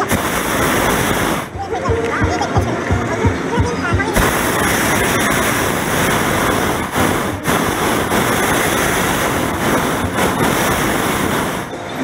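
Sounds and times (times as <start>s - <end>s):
propane burner roaring: 0.0s - 1.9s, 4.1s - 12.0s.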